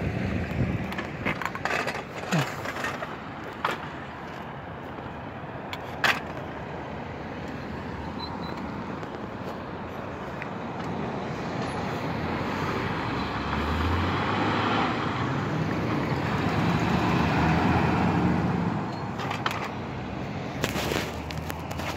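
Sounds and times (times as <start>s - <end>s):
cars driving past: 0.0s - 21.9s.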